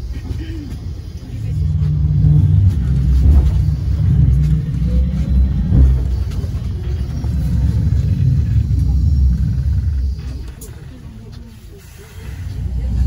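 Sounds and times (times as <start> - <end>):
low rumble inside moving bus: 0.0 - 13.0.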